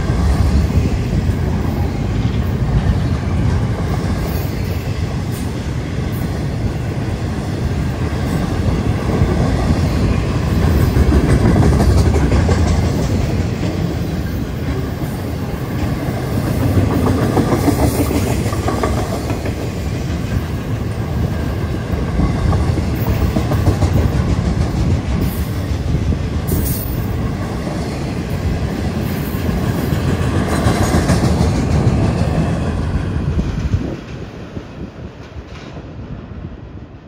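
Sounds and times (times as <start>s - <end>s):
clickety-clack of train wheels: 0.0s - 36.4s
train wheels rumbling on rails: 0.0s - 37.0s.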